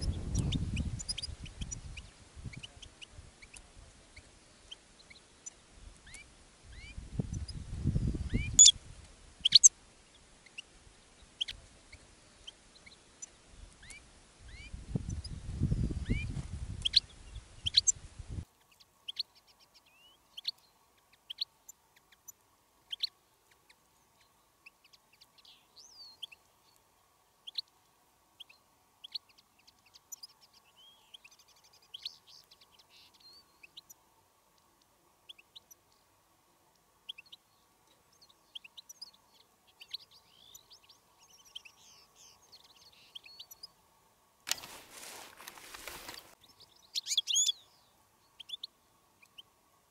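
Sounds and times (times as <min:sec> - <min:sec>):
goldfinches chirping and twittering: 0:00.0 - 0:08.8, 0:09.4 - 0:18.0, 0:18.6 - 0:26.8, 0:28.4 - 0:34.0, 0:37.0 - 0:43.8, 0:46.1 - 0:49.6
faint steady tone: 0:00.0 - 0:44.7, 0:45.4 - 0:49.9.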